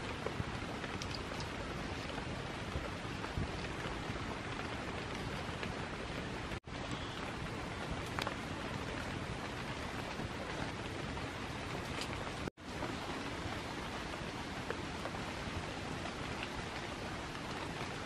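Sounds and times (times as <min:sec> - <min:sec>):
rain on foliage: 0:00.0 - 0:18.0.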